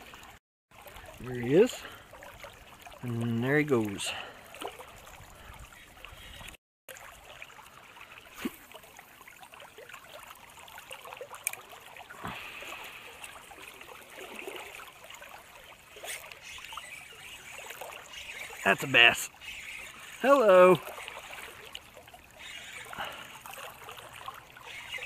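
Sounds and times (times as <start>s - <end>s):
river current flowing: 0.0s - 25.0s.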